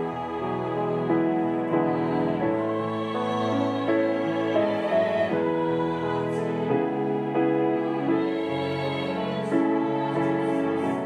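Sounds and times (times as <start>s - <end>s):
women's choir singing a hymn: 0.0s - 11.0s.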